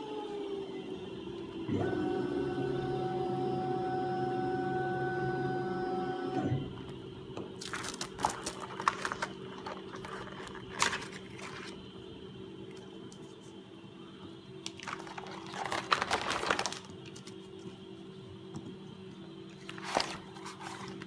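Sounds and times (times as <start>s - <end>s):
faint steady hum: 0.0s - 21.0s
machine motor whining hum: 0.0s - 21.0s.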